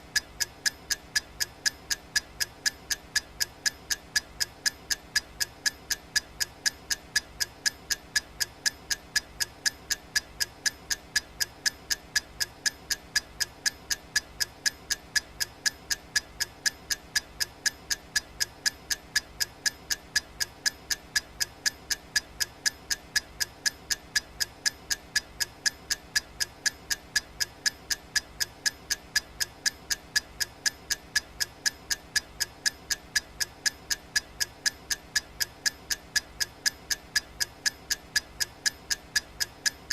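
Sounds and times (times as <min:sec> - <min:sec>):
countdown timer ticking: 0:00.1 - 0:39.9.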